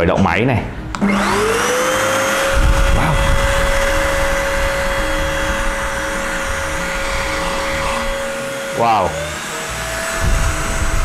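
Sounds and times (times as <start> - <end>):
vacuum cleaner motor whining: 0.9 - 11.0
rushing air: 1.1 - 8.8, 9.8 - 11.0.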